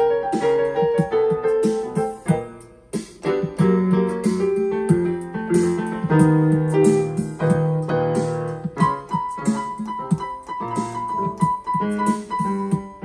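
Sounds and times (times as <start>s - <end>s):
electronic keyboard playing: 0.0s - 13.0s.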